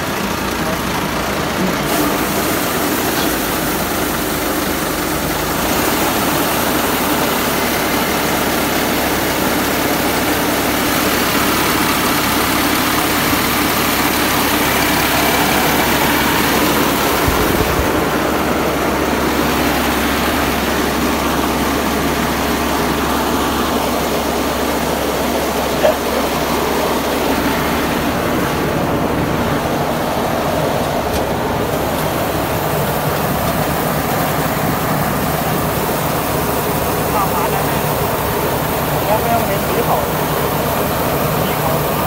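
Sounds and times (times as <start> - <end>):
combine harvester engine droning: 0.0 - 42.0.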